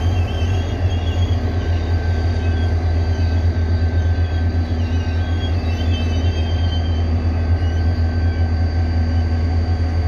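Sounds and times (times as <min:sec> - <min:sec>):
locomotive engine humming: 0:00.0 - 0:10.0.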